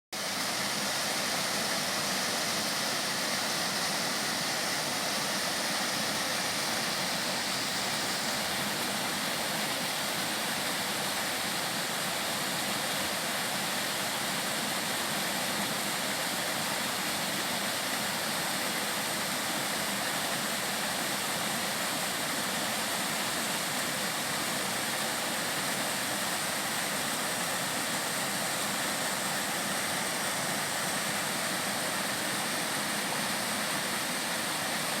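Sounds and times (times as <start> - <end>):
stream water rushing: 0.2 - 35.0.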